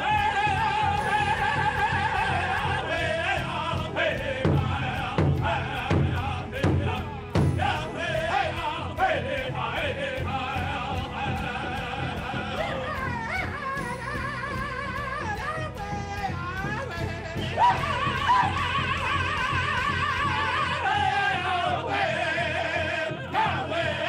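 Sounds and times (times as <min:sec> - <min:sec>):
large drum steady beat: 0:00.0 - 0:24.0
men singing in high voices: 0:00.0 - 0:24.0.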